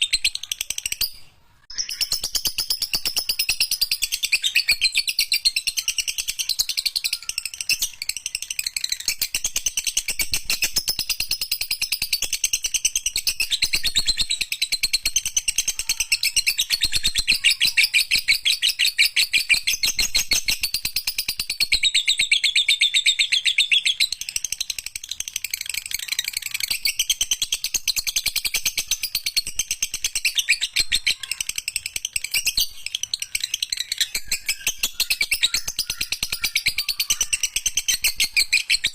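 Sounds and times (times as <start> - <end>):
lovebird chattering: 0.0 - 38.9.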